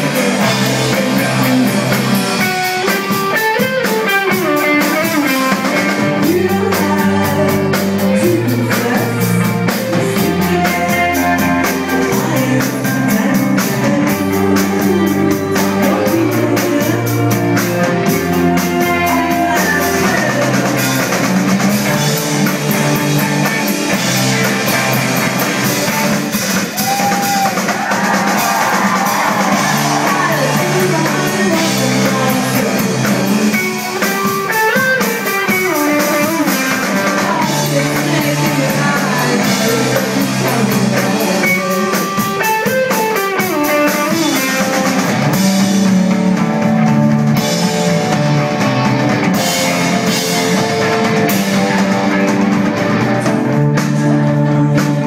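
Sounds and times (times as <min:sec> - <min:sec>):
person singing: 0:00.0 - 0:46.2, 0:49.3 - 0:55.0
drum kit: 0:00.0 - 0:55.0
electric guitars: 0:00.0 - 0:55.0.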